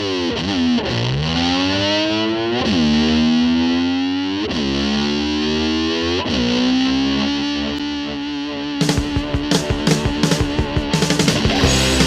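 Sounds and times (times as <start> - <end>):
distorted electric slide guitar: 0.0 - 12.0.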